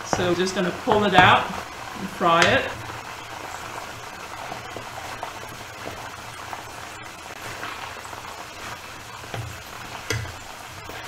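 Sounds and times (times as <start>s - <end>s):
chicken frying in oil: 0.0s - 11.0s
onion paste sizzling and crackling: 0.0s - 11.0s.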